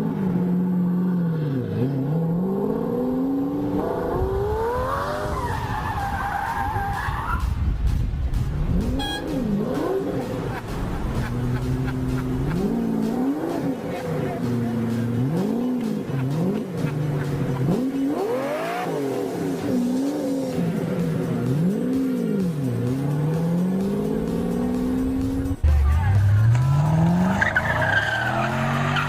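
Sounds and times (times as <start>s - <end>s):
car engine revving: 0.0s - 7.5s, 8.4s - 29.0s
engine accelerating hard: 0.0s - 7.5s, 8.4s - 29.0s.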